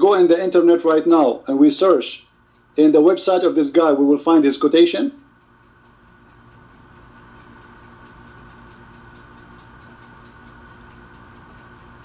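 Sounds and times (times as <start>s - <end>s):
fast regular ticking: 0.0s - 12.0s
low electrical hum: 0.0s - 12.0s.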